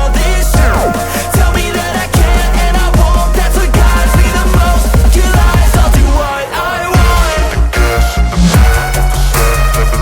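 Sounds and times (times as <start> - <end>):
electronic music with bass drops: 0.0 - 10.0.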